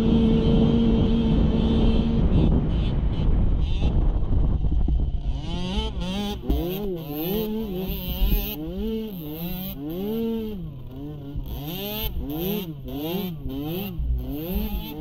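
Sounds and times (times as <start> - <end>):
small atv engine revving: 0.0 - 15.0.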